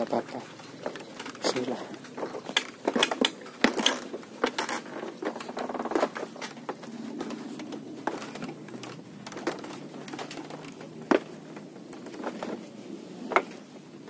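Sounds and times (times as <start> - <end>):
bamboo rattle: 0.0 - 14.0
footsteps on bamboo raft: 0.0 - 14.0.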